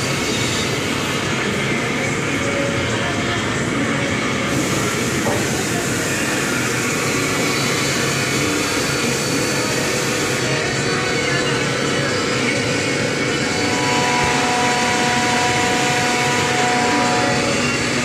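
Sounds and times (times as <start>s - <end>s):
workshop machinery drone: 0.0s - 18.0s.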